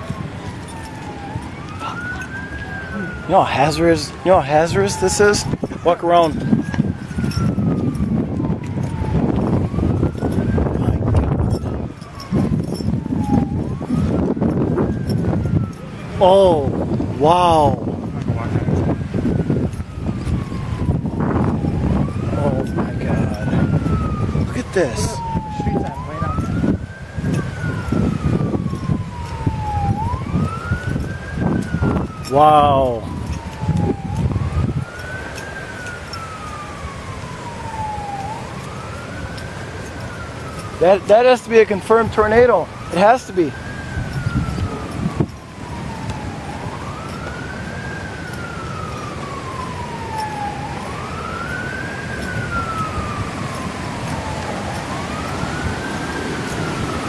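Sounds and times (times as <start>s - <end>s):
emergency vehicle siren wailing: 0.0s - 57.0s.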